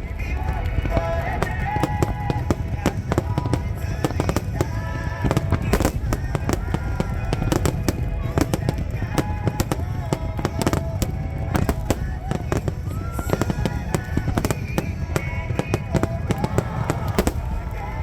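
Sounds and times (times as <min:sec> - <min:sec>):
fireworks bursting and crackling: 0:00.0 - 0:18.0
music: 0:00.0 - 0:18.0
voices: 0:00.0 - 0:18.0.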